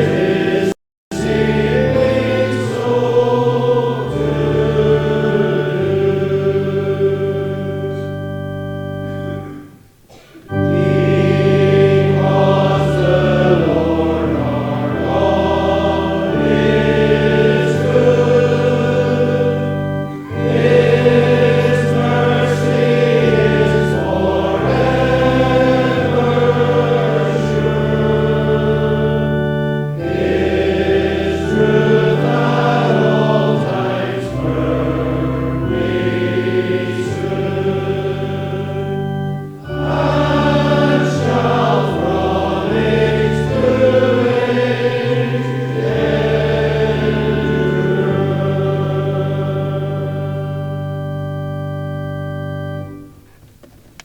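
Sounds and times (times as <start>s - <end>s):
congregation singing: 0.0s - 53.6s
pipe organ: 0.0s - 54.0s.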